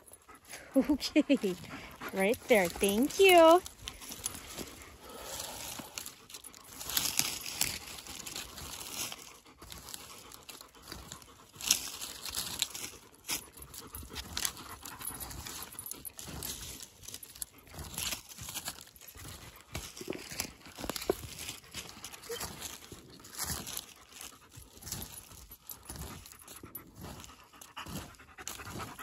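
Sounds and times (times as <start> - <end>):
hand rake scratching soil: 0.0 - 29.0.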